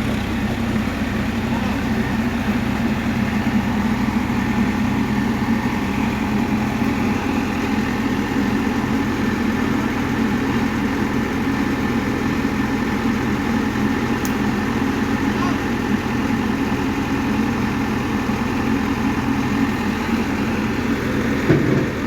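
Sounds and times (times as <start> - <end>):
heavy machine engine idling: 0.0 - 22.0.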